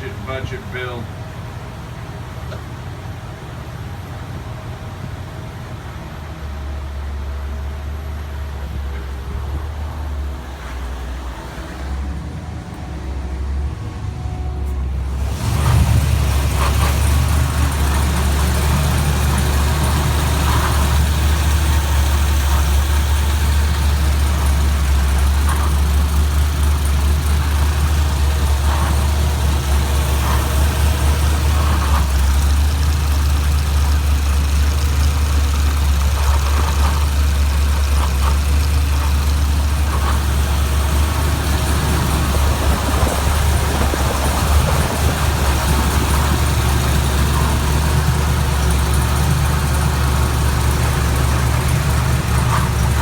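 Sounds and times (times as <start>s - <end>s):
car engine idling: 8.5s - 53.0s.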